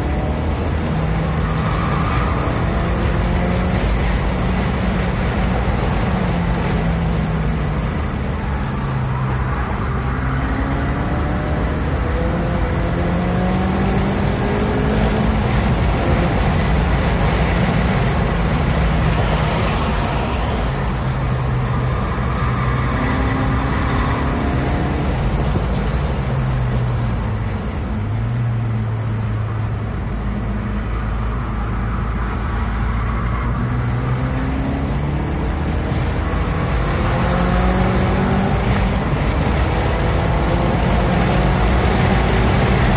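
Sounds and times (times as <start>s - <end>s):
car engine revving: 0.0s - 30.3s, 32.5s - 42.9s
road and wind noise: 0.0s - 42.9s.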